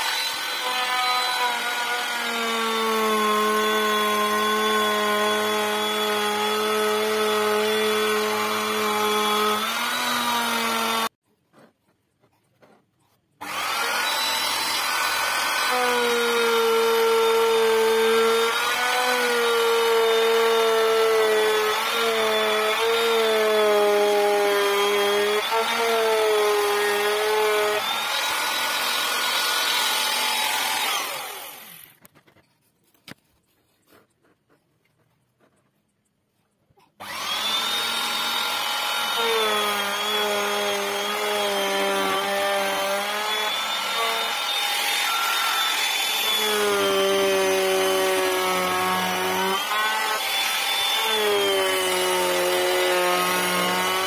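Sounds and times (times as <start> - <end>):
electric router cutting wood: 0.0 - 11.2, 13.4 - 32.0, 37.0 - 54.0.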